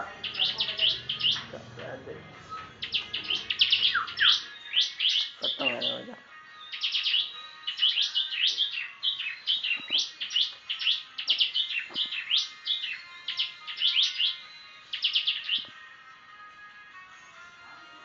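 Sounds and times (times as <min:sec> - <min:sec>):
bird chirping: 0:00.0 - 0:15.7.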